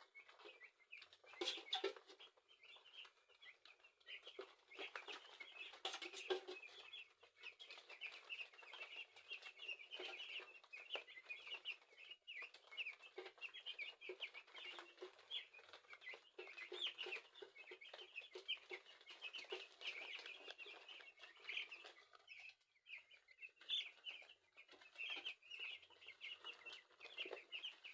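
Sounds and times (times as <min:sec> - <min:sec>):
chicks peeping: 0:00.0 - 0:27.9.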